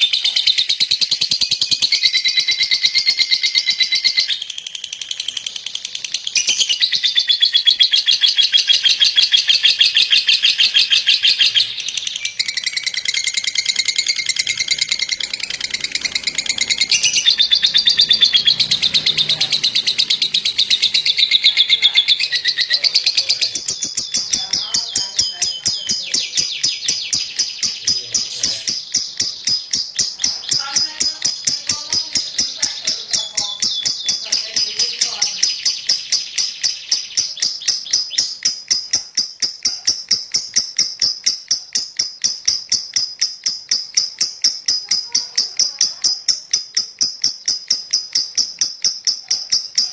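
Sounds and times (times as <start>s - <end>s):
lovebird chattering song: 0.0s - 49.9s.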